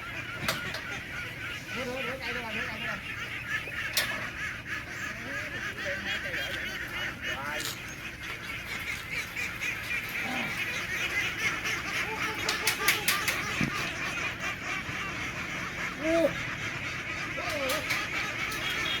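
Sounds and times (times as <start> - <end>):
flock of ducks calling: 0.0 - 19.0
loud duck quacks: 0.0 - 19.0.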